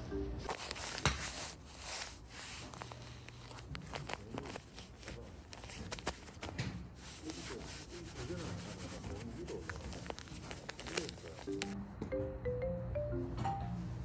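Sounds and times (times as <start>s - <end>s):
scratchy rubbing of fabric: 0.5s - 11.8s.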